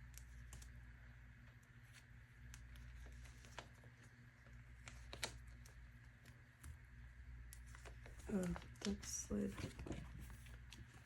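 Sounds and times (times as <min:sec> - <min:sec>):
low room hum: 0:00.0 - 0:11.0
plastic pages ticking and clicking: 0:01.4 - 0:06.8, 0:07.4 - 0:11.0.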